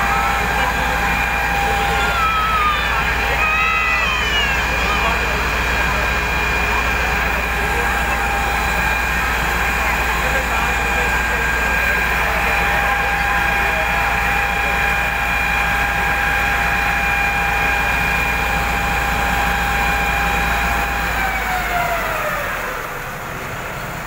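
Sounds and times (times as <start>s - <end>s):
water pump whining: 0.0s - 24.0s.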